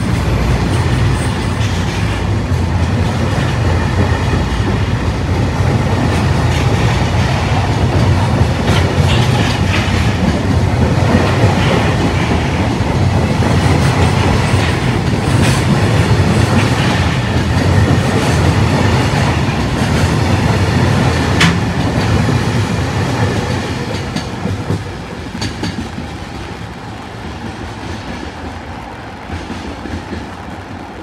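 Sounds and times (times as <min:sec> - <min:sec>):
freight train wheels clattering: 0:00.0 - 0:31.0.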